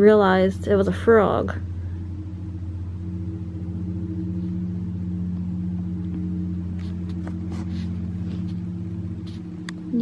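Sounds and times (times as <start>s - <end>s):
low pulsing drone: 0.0s - 10.0s.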